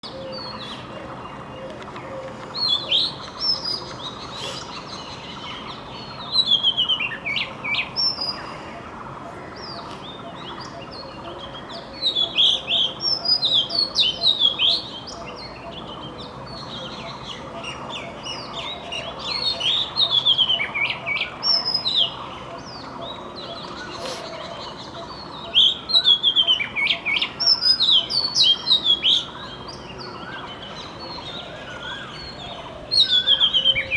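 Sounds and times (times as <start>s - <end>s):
bird singing whistled notes: 0.0s - 8.5s, 9.6s - 33.9s
steady background noise: 0.0s - 33.9s.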